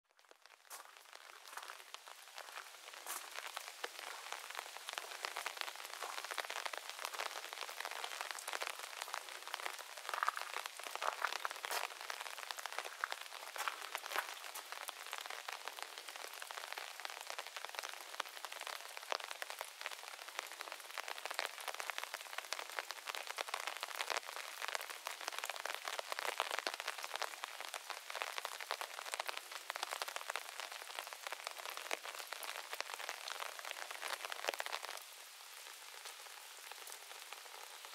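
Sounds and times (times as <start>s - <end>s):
steady rain on trees: 0.1s - 37.9s.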